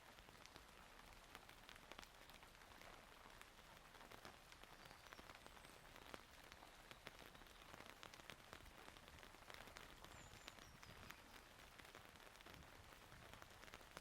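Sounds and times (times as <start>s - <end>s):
faint steady rain: 0.0s - 14.0s
raindrops ticking on surfaces: 0.0s - 14.0s.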